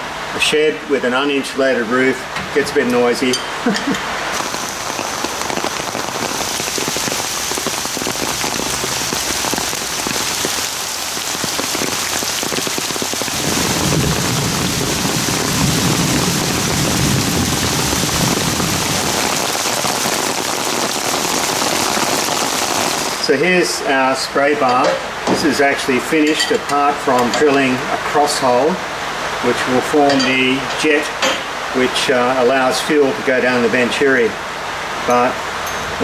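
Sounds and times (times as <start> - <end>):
heavy rain falling: 2.2 - 36.0.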